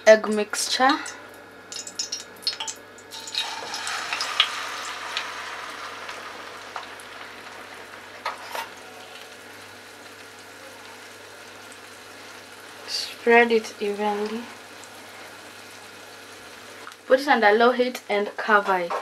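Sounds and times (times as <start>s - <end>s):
egg mixture sizzling in oil: 1.7s - 17.4s.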